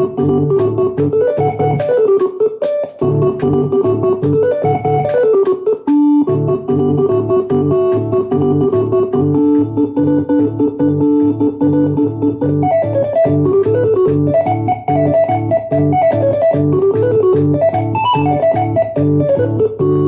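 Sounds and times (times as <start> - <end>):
organ playing fast melody: 0.0 - 20.0.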